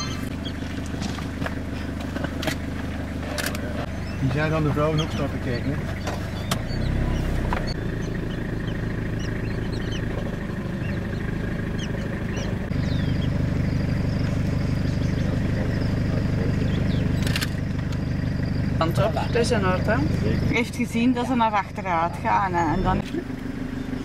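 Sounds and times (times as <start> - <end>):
birds chirping: 0.0 - 24.0
vehicle engine running: 0.0 - 24.0.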